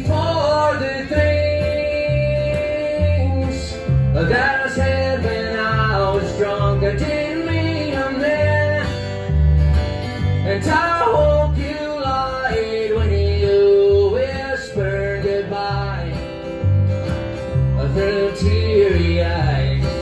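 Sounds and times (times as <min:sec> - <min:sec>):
acoustic string band playing: 0:00.0 - 0:20.0
upright bass thumping: 0:00.0 - 0:20.0.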